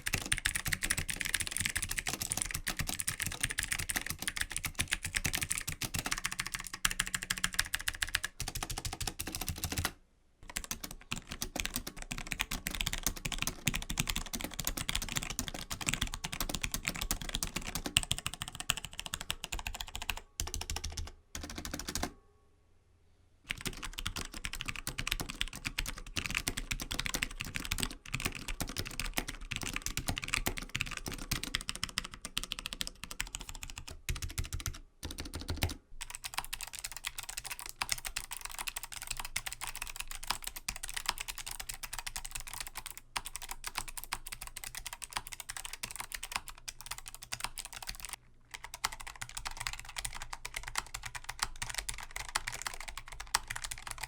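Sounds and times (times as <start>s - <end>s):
mechanical keyboard typing: 0.0s - 22.2s, 23.5s - 54.0s.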